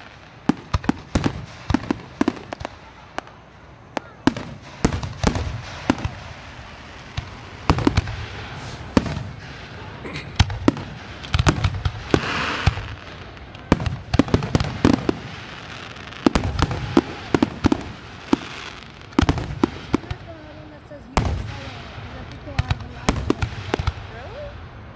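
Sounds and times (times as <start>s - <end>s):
fireworks bangs: 0.0s - 24.9s
fireworks hissing crackle: 0.0s - 24.9s.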